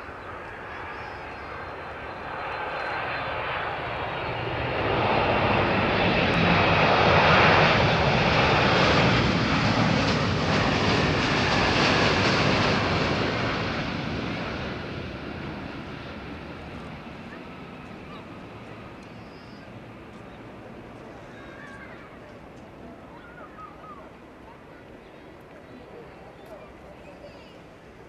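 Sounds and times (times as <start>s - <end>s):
jet airliner landing: 0.0s - 28.0s.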